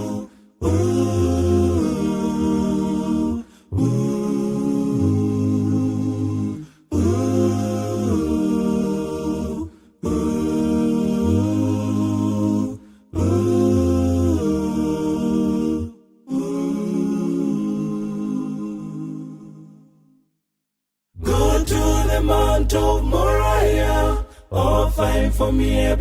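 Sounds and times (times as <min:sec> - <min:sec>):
a cappella humming chords: 0:00.0 - 0:19.9, 0:21.2 - 0:26.0.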